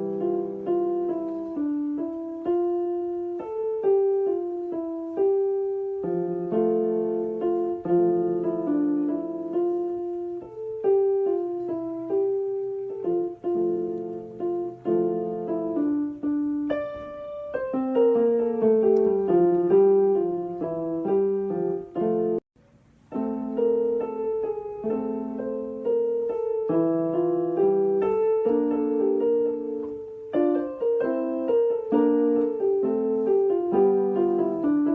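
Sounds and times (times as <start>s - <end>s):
gentle piano music: 0.0s - 34.9s.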